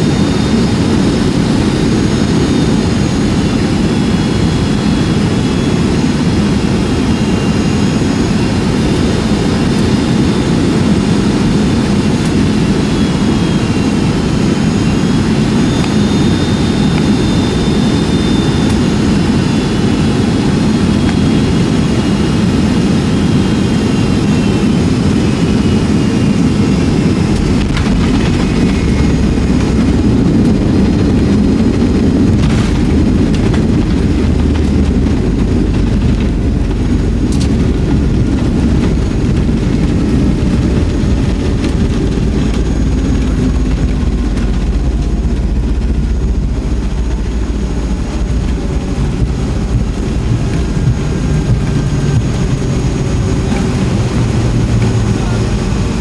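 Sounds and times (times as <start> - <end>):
high engine whine: 0.0 - 56.0
jet engine and airflow rush: 0.0 - 56.0.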